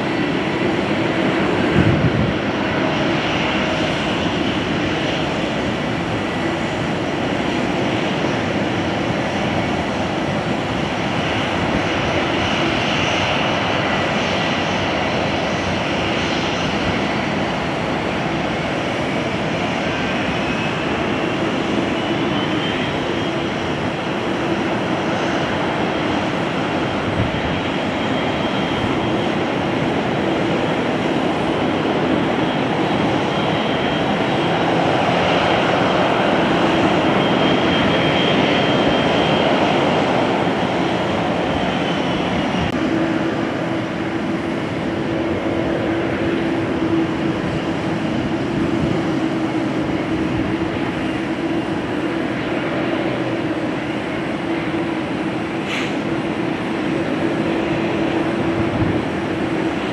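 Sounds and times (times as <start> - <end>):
jet engine noise: 0.0 - 59.9.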